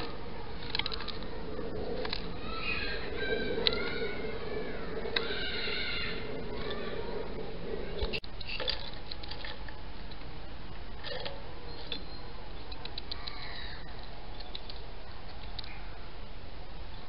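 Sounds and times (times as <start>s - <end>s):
small birds chirping: 0.0s - 9.4s, 11.4s - 16.2s
steady hiss: 0.0s - 17.0s.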